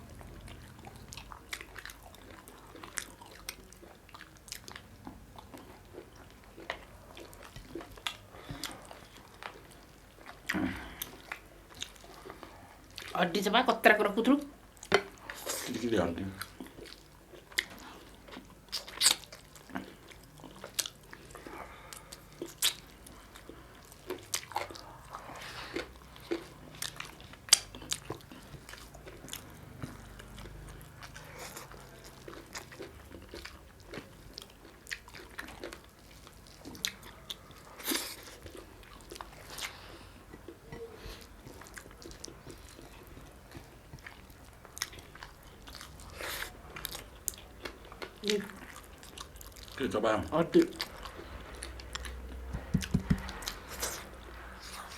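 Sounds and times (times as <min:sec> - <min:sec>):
person chewing food: 0:00.0 - 0:13.2, 0:14.4 - 0:54.9.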